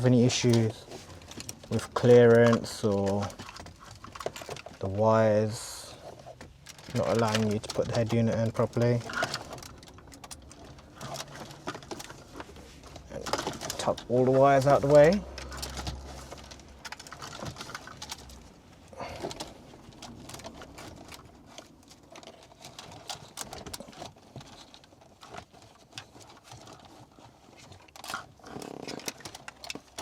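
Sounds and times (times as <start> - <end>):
faint rustling of wiring: 0.0 - 30.0.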